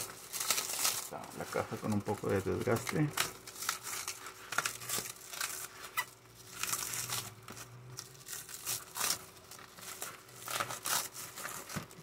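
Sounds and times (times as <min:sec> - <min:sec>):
plastic wrap crinkling and tearing: 0:00.0 - 0:12.0.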